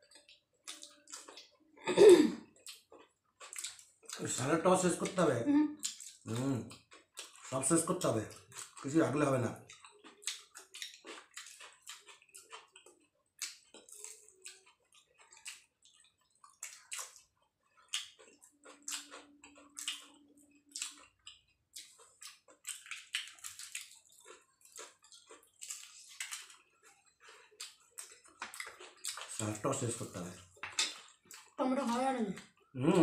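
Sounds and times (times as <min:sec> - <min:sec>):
wet chewing and crunching: 0:00.0 - 0:01.8, 0:02.4 - 0:05.2, 0:05.8 - 0:33.0.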